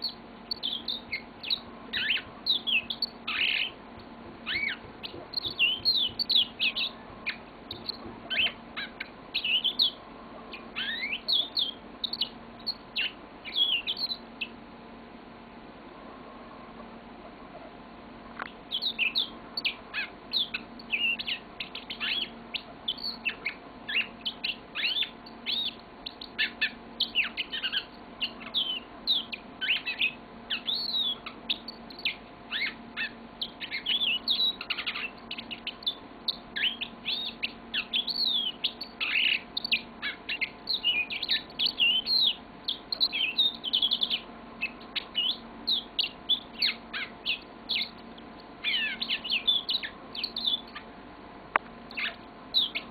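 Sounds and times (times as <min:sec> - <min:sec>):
canary singing chirps and trills: 0:00.0 - 0:15.0, 0:18.4 - 0:52.9.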